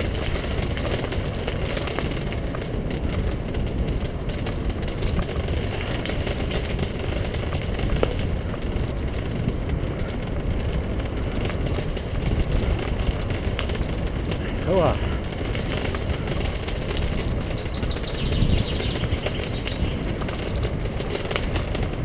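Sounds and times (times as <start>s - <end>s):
tyres rumbling over dirt path: 0.0s - 22.0s
wind rushing on microphone: 0.0s - 22.0s.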